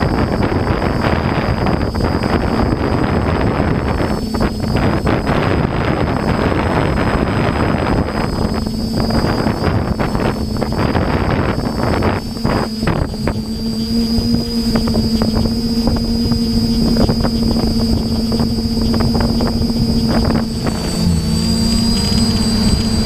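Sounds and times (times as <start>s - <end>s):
drone propellers buzzing: 0.0s - 23.0s
wind gusting over microphone: 0.0s - 23.0s.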